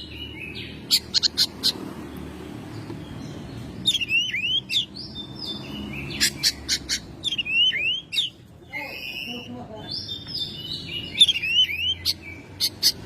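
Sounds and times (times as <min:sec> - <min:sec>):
bird whistled song: 0:00.0 - 0:01.8, 0:03.2 - 0:13.0.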